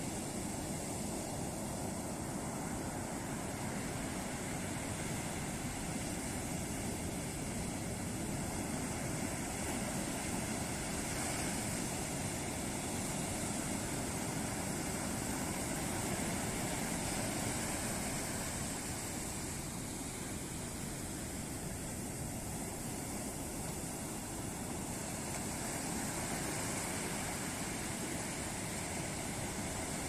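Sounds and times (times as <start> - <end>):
waves breaking on a beach: 0.0 - 30.0.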